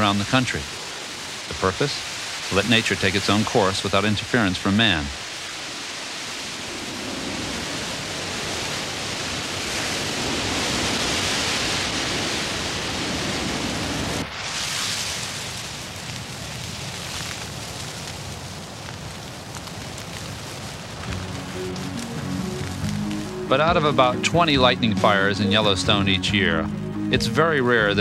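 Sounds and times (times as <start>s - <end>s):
forest fire rushing: 0.0s - 28.0s.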